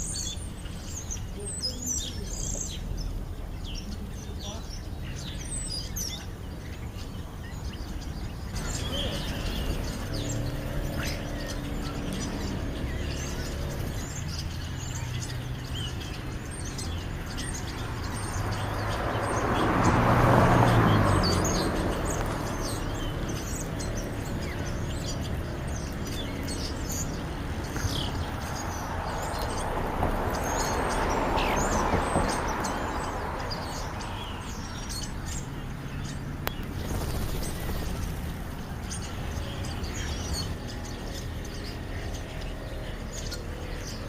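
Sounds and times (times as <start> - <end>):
motor vehicle humming: 0.0 - 44.0
starlings chirping and chattering: 0.0 - 44.0.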